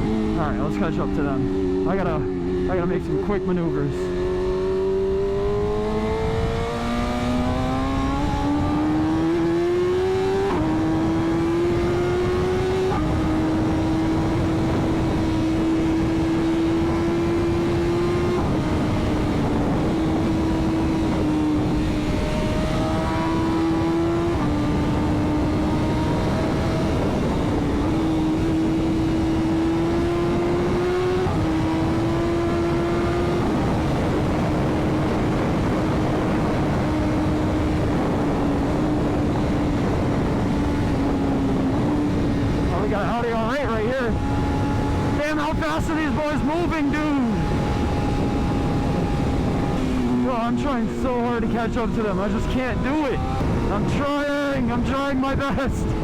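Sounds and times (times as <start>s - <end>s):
heavy wind rush: 0.0s - 56.0s
motorcycle engine accelerating: 0.0s - 56.0s.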